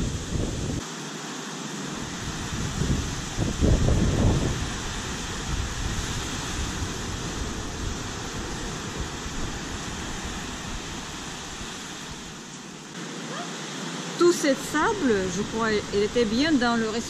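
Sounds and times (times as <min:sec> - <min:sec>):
wind rumbling on microphone: 0:00.0 - 0:00.8, 0:01.8 - 0:12.5, 0:14.8 - 0:17.0
sea surf breaking on beach: 0:00.0 - 0:17.0.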